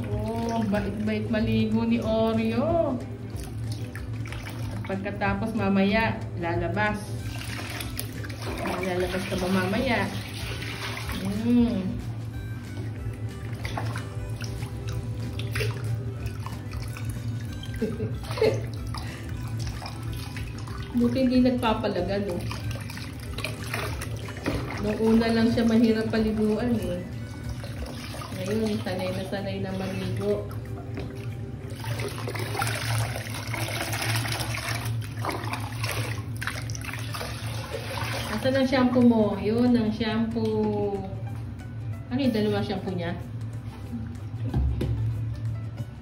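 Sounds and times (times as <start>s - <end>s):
water pouring and splashing: 0.0s - 6.3s, 7.0s - 41.3s
background music: 0.0s - 46.0s
low steady hum: 0.0s - 46.0s.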